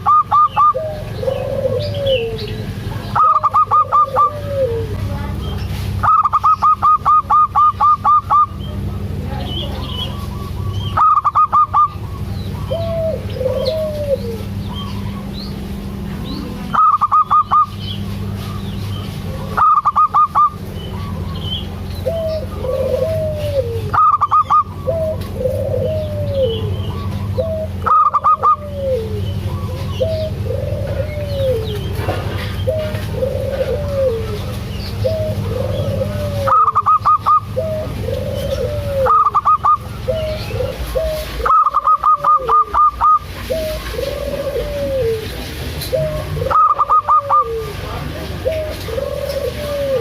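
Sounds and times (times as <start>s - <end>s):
dove soft cooing: 0.0s - 5.1s, 5.9s - 50.0s
dove rapid staccato calls: 0.0s - 50.0s.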